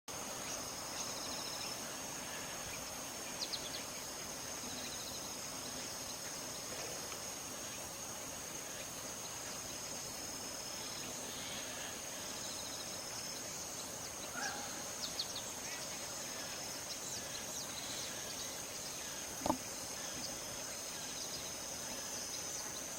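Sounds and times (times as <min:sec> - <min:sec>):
insect chirping trills: 0:00.1 - 0:22.9
insect high-pitched drone: 0:00.2 - 0:22.9.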